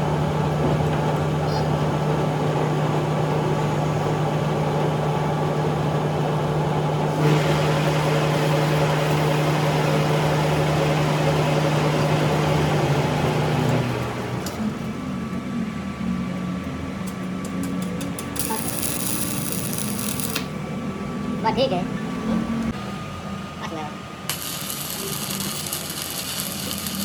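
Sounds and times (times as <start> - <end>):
machine humming: 0.0 - 15.8, 18.2 - 27.0.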